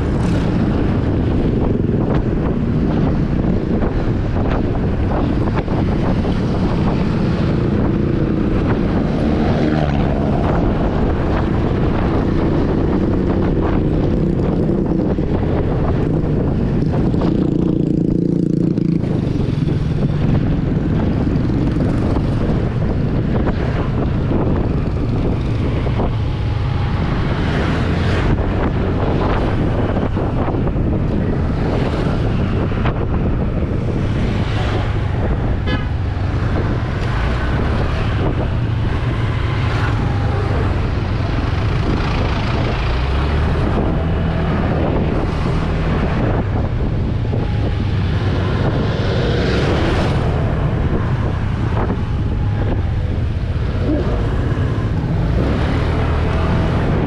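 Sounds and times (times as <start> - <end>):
passing traffic: 0.0 - 57.0
wind buffeting microphone: 0.0 - 57.0.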